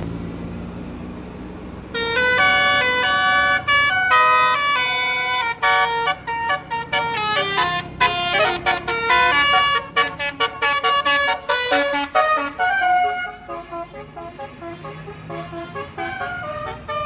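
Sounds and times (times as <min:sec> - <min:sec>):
bus horn playing a fast tune: 0:01.9 - 0:17.0.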